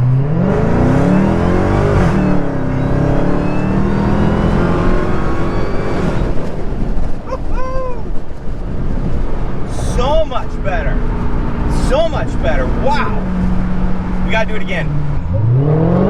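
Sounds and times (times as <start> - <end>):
car engine revving at full throttle: 0.0 - 7.3, 8.0 - 16.0.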